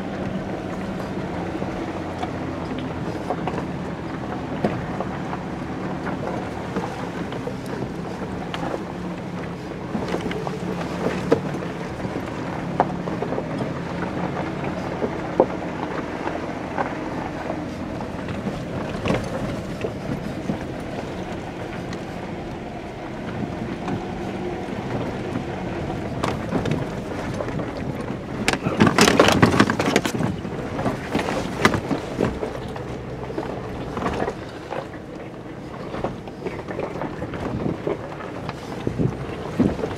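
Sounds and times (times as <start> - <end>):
vehicle engine running at low speed: 0.0 - 39.9.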